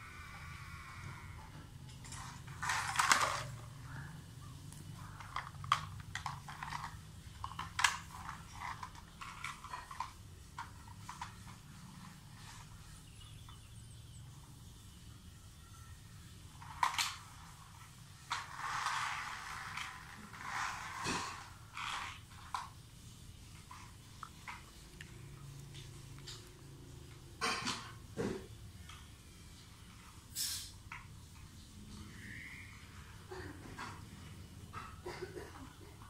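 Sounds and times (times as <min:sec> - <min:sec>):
plastic toys clattering on tiles: 0:01.4 - 0:13.7, 0:16.5 - 0:22.8, 0:23.4 - 0:29.0, 0:30.8 - 0:36.0.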